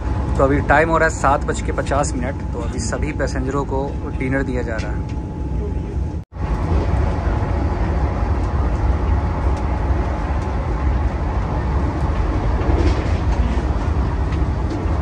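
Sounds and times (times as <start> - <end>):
train rumbling inside coach: 0.0 - 15.0.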